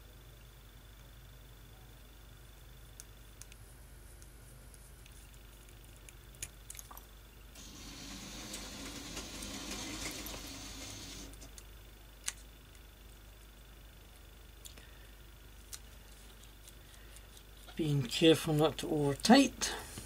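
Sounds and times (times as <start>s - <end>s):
soft rustling hiss: 2.2s - 20.0s.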